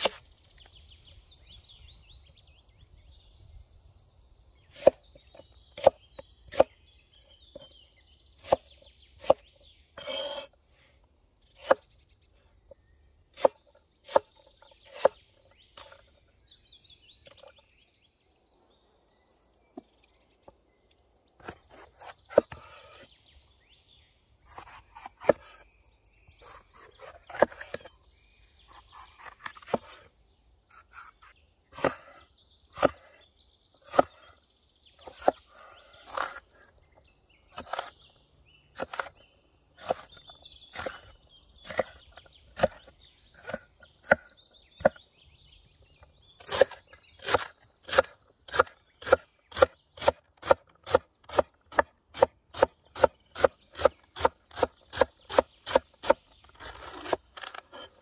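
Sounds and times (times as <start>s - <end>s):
faint birds chirping: 0.0s - 58.0s.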